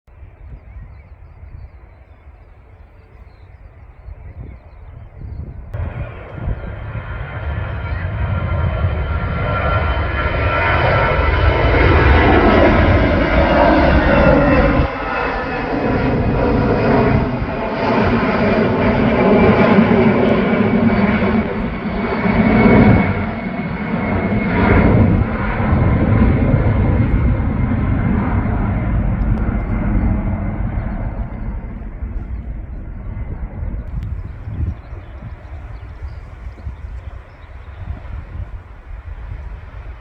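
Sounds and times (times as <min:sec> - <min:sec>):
aircraft engines passing by: 0:00.1 - 0:40.0.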